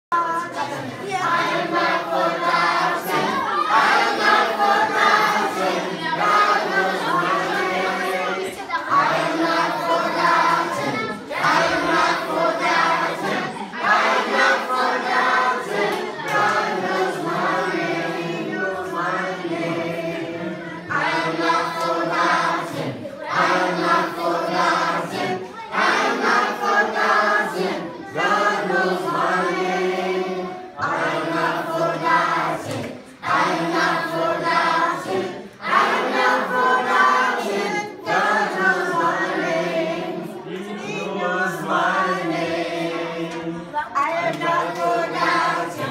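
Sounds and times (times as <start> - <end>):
group singing without instruments: 0.1 - 45.9.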